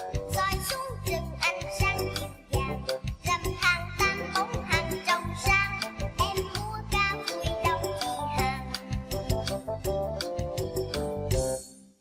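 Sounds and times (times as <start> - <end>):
children's song with beat: 0.0 - 12.0.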